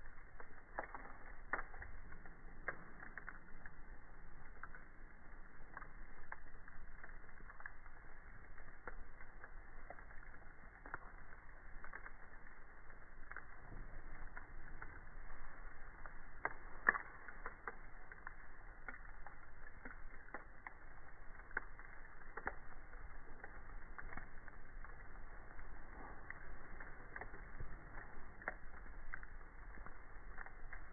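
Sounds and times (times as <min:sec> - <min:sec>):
faint steady hiss: 0:00.0 - 0:30.9
wood fire crackling: 0:00.0 - 0:30.9.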